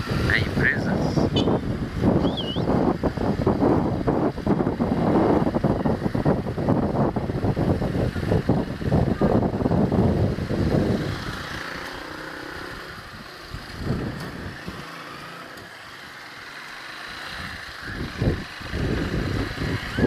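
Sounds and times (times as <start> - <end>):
wind rumbling on microphone: 0.0 - 15.0, 17.1 - 20.0
motorcycle engine running: 0.0 - 20.0.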